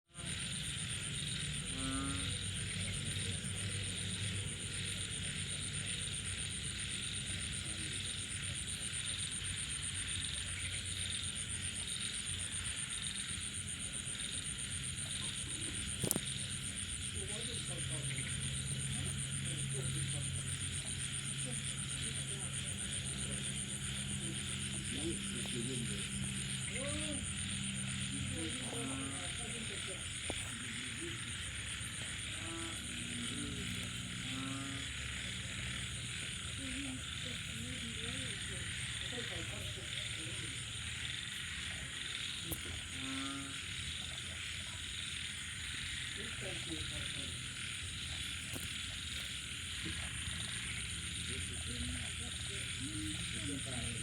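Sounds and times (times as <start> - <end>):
chorus of frogs calling: 0.1 - 54.0.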